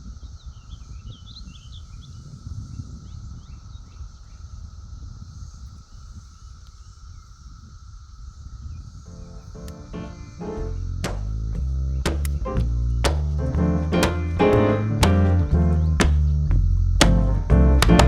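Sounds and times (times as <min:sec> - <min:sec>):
insect drone: 0:00.0 - 0:17.9
wind rumble on microphone: 0:00.0 - 0:18.0.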